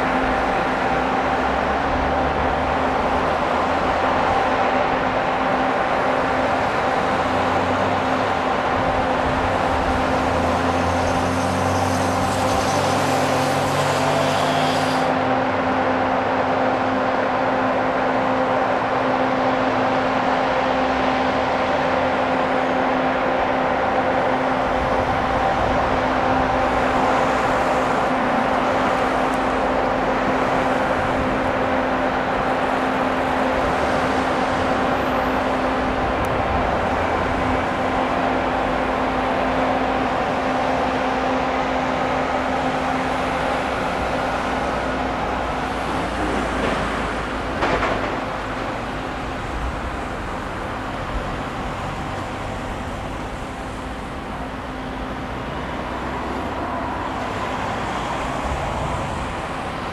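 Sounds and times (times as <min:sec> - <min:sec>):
machinery pitched drone: 0:00.0 - 0:59.9.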